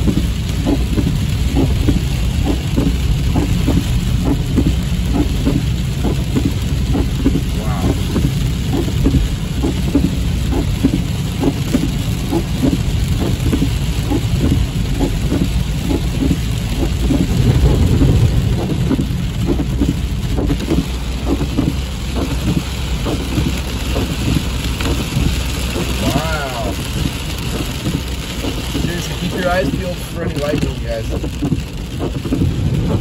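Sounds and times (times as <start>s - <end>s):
moving car rumble: 0.0s - 33.0s
rain drumming on car roof: 0.0s - 33.0s.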